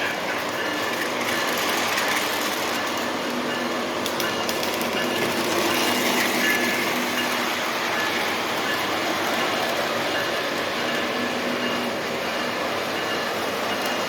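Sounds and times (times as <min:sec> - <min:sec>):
wheels rolling on rails: 0:00.0 - 0:14.0.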